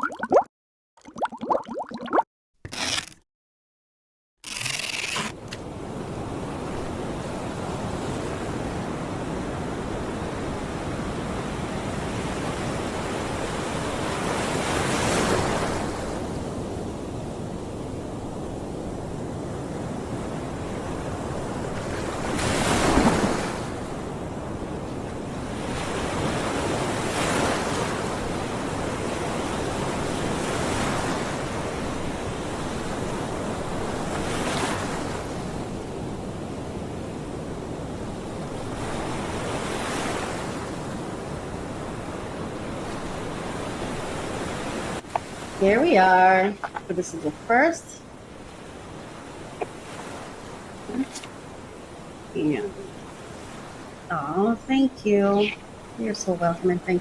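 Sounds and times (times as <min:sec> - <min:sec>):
ocean waves surf hiss: 0:05.7 - 0:56.3.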